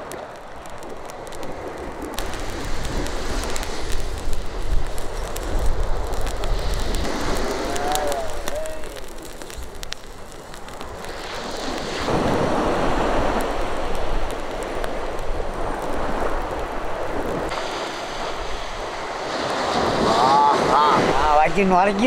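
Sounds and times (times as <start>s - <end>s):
seawater washing and splashing: 0.0s - 22.0s
wind buffeting microphone: 0.0s - 22.0s.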